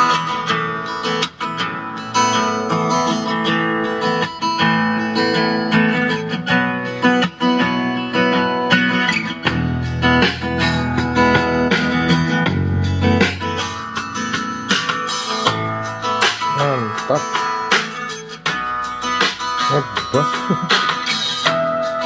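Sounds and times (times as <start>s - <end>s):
strummed acoustic guitar music: 0.0s - 22.0s.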